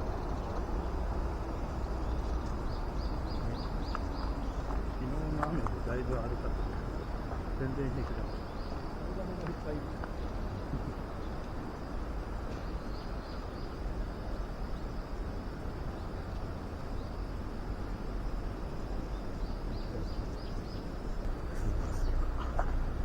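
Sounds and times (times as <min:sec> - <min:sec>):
small birds chirping: 0:00.0 - 0:17.3, 0:18.4 - 0:23.0
steady low rumble: 0:00.0 - 0:23.0.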